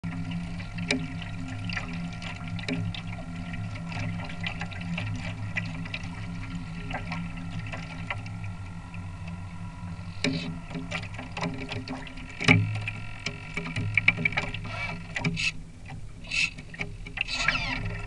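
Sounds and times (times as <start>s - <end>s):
steady low hum: 0.0s - 18.0s
water splashing against hulls: 0.0s - 18.0s.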